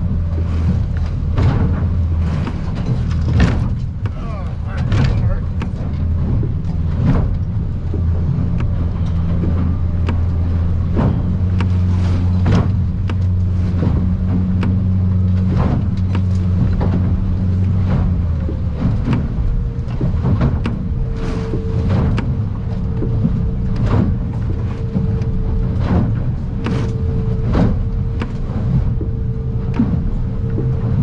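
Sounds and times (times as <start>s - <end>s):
hull knocking and slapping on waves: 0.0s - 31.0s
outboard motor droning: 0.0s - 31.0s.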